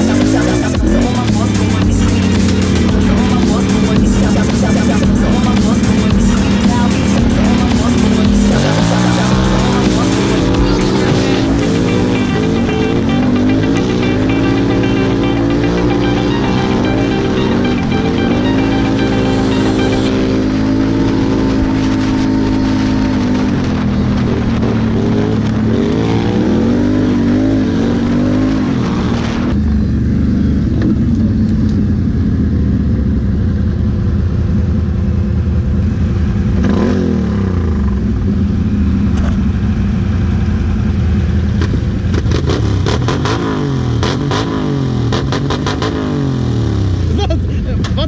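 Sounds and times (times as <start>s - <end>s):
second quad engine revving: 0.0s - 33.6s, 35.8s - 48.0s
quad bike engine revving: 0.0s - 35.0s, 35.8s - 48.0s.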